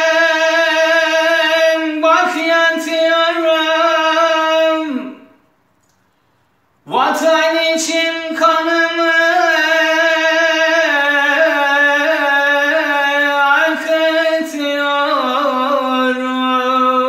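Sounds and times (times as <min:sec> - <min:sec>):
man singing unaccompanied: 0:00.0 - 0:05.4, 0:06.8 - 0:17.0.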